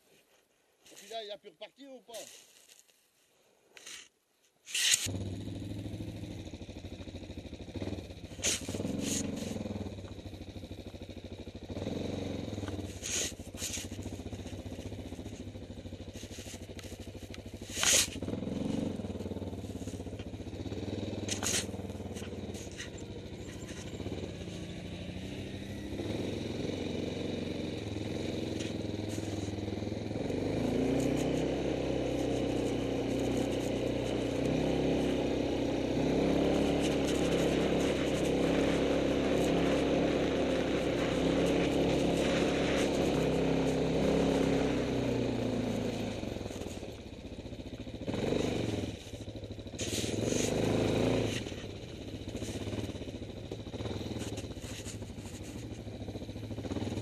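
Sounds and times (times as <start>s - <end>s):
quad bike engine running: 4.8s - 57.0s.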